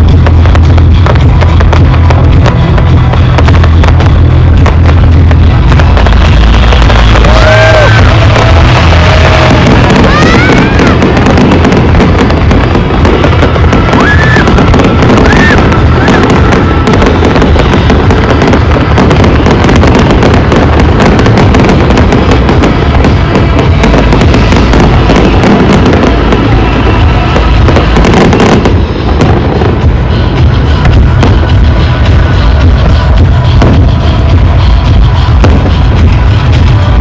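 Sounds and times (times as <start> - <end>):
fireworks bursting and crackling: 0.0 - 37.0
firework whistles: 0.1 - 37.0.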